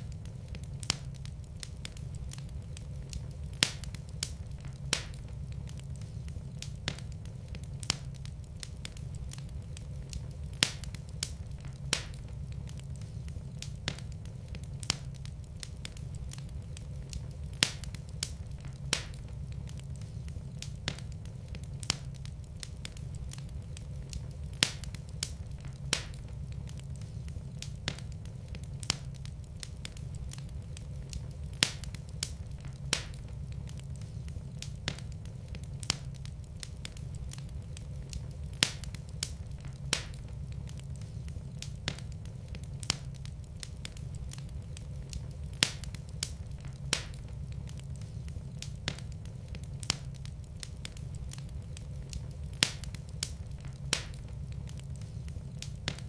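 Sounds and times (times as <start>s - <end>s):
fire crackles and pops: 0.0s - 56.0s
wood fire rumbling: 0.0s - 56.0s.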